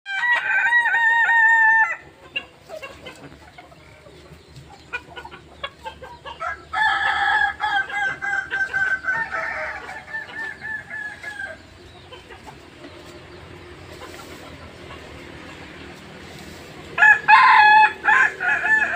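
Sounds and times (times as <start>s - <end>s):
roosters crowing: 0.1s - 18.9s.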